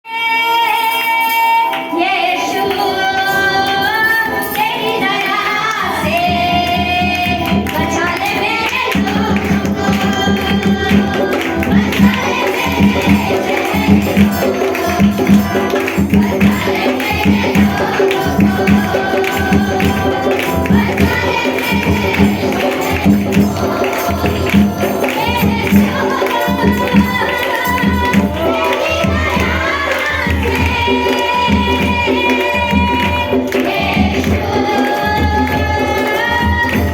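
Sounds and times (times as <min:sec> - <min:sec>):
people singing worship song: 0:00.1 - 0:36.9
tambourine: 0:00.4 - 0:36.9
steady drum beat: 0:06.0 - 0:36.9.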